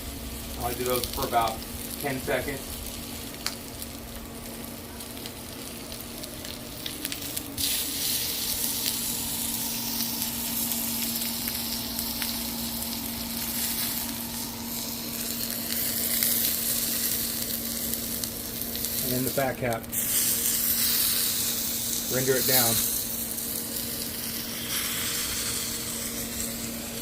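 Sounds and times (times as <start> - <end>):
steady low hum: 0.0 - 27.0
steak sizzling on a griddle: 0.0 - 27.0.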